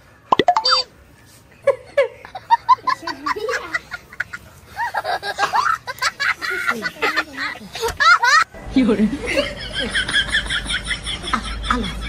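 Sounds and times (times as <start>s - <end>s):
people laughing and giggling: 1.5s - 8.5s, 9.1s - 12.0s.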